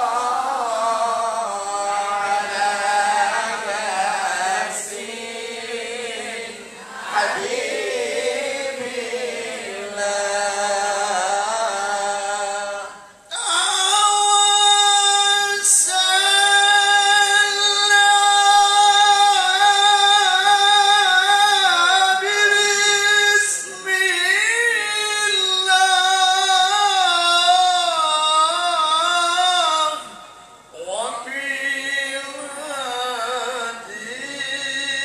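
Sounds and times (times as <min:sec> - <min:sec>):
man chanting into a microphone: 0:00.0 - 0:05.0, 0:07.2 - 0:35.0.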